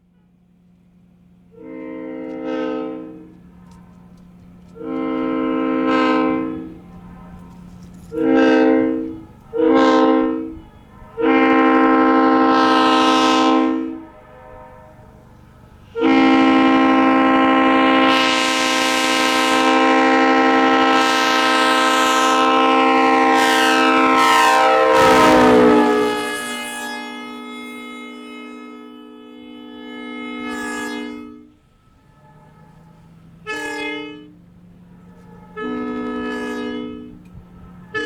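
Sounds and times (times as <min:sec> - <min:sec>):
locomotive air horn blasts: 0:01.4 - 0:38.0.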